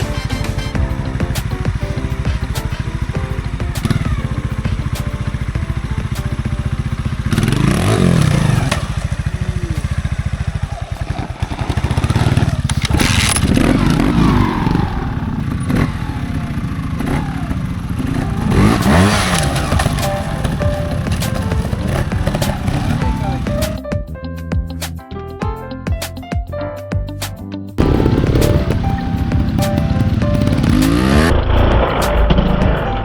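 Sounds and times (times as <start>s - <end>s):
motorcycle engine revving: 0.0s - 23.8s, 27.8s - 33.0s.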